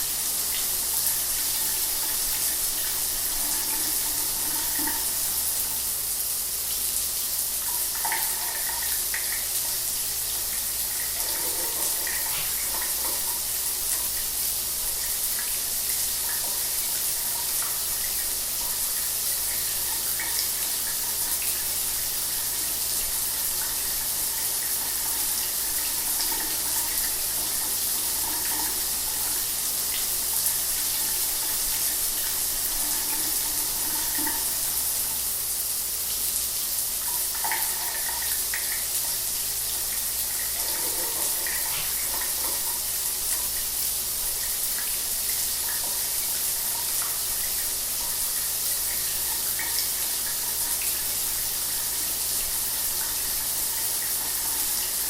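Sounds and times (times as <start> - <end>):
shower water spraying: 0.0 - 55.0.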